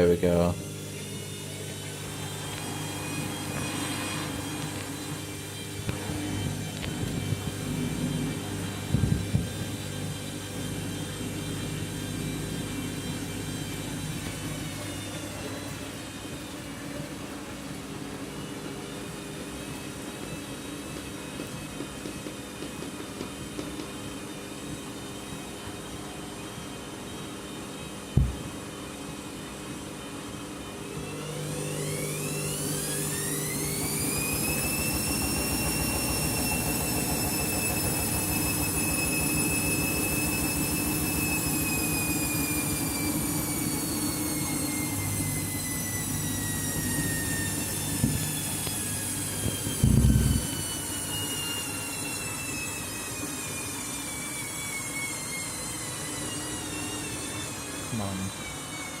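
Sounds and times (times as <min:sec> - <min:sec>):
washing machine spinning whine: 0:00.0 - 0:59.0.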